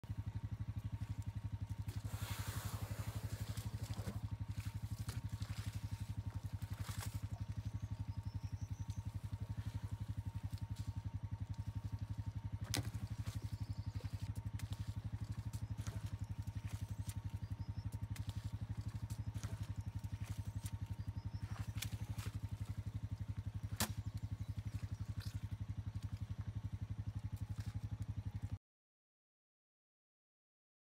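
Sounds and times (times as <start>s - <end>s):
engine idling: 0.0s - 28.6s.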